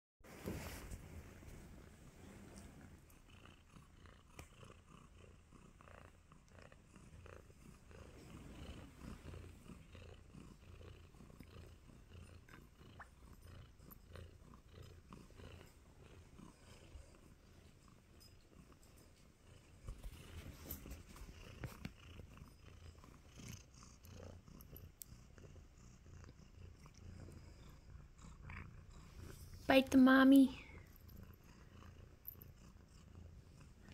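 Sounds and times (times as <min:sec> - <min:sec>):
kitten purring: 0:00.4 - 0:33.9.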